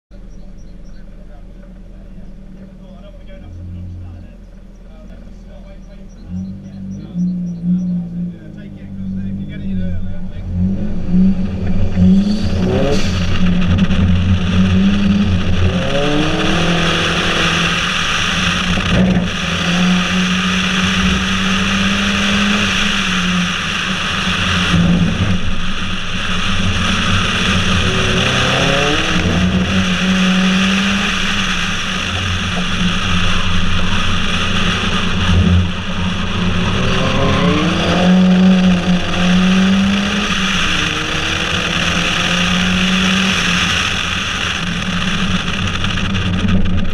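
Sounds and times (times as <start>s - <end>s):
car engine accelerating: 0.1s - 46.9s
wind rush outside moving car: 0.1s - 46.9s.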